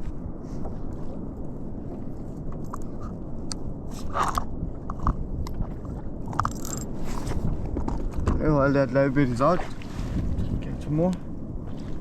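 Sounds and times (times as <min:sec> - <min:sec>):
wind and water rumble on microphone: 0:00.0 - 0:12.0.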